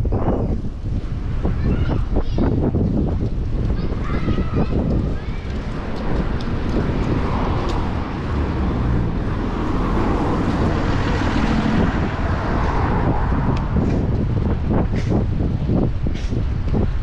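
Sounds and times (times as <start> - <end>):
road traffic passing: 0.0 - 17.0
wind on microphone: 0.0 - 17.0.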